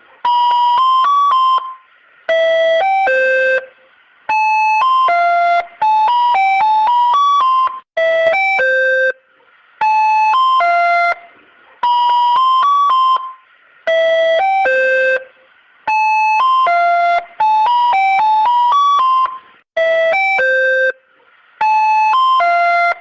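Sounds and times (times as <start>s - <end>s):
ice cream van jingle: 0.2s - 9.2s, 9.8s - 23.0s.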